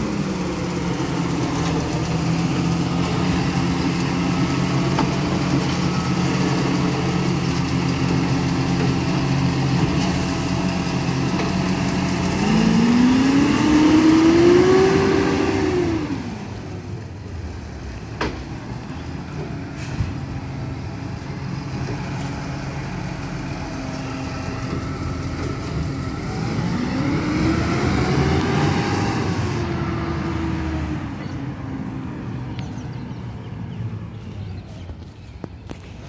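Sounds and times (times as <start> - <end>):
garbage truck diesel engine: 0.0 - 36.0.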